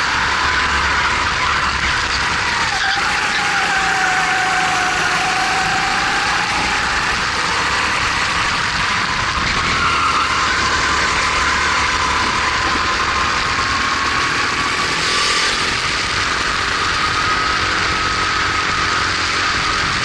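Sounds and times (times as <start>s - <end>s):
kart engine running hard: 0.0s - 20.0s.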